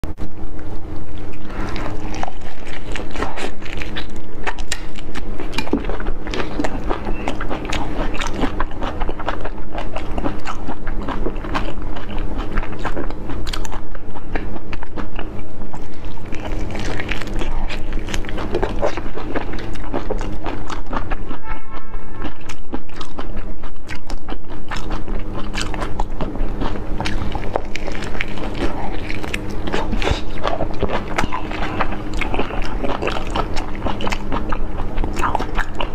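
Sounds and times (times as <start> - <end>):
wet biting and chewing: 0.4 - 35.9.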